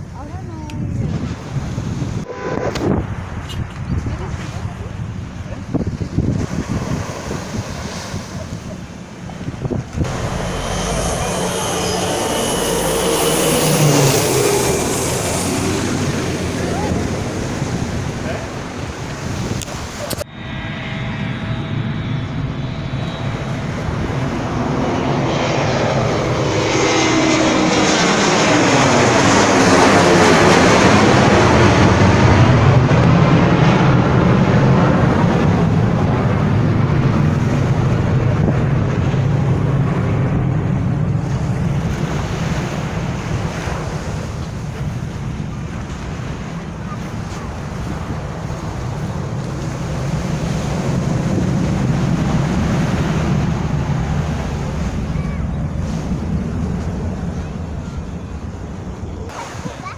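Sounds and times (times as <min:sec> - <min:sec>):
airliner flying low overhead: 0:00.0 - 0:59.9.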